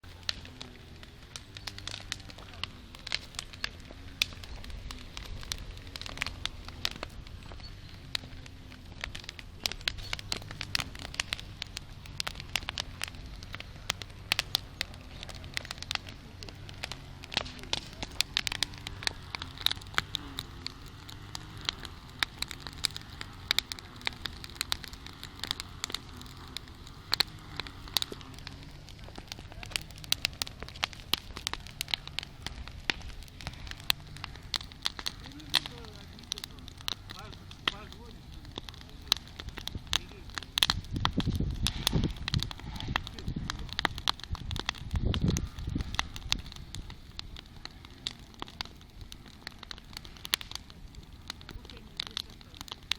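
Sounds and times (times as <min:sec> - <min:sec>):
low rush of flame: 0:00.0 - 0:52.9
wood crackling and popping: 0:00.0 - 0:52.9.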